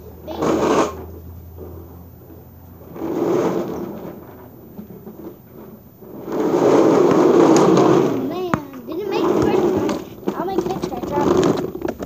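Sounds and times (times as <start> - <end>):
plastic wheels rolling on concrete: 0.2 - 12.0.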